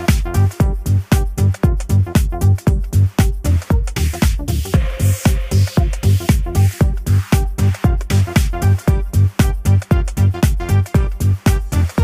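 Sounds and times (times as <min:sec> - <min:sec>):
electronic dance music: 0:00.0 - 0:12.0
kick drum and bass hits: 0:00.0 - 0:12.0.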